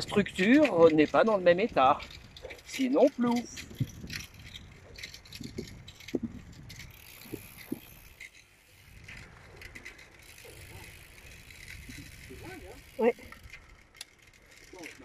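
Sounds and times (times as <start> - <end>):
trike rattling and clicking: 0.0 - 15.0.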